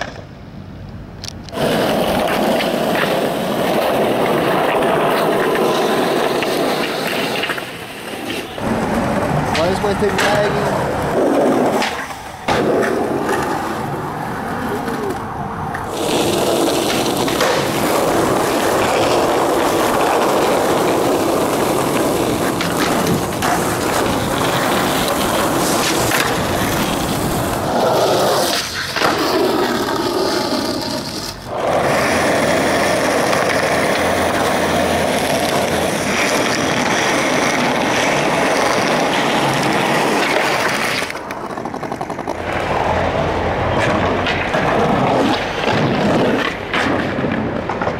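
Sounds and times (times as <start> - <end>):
skateboard clacks: 0.0 - 0.4, 1.2 - 47.9
skateboard wheels rolling on concrete: 0.0 - 47.9.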